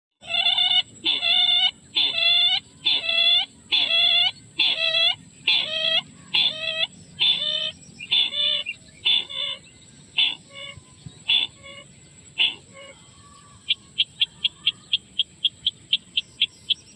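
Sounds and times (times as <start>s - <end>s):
rail calling with nasal notes: 0.2s - 16.9s.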